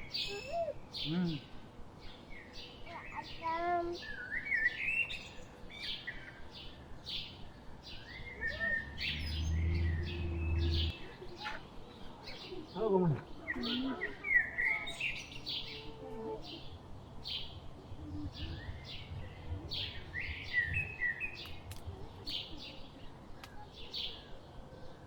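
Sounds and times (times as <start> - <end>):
small birds chirping: 0.0 - 24.6.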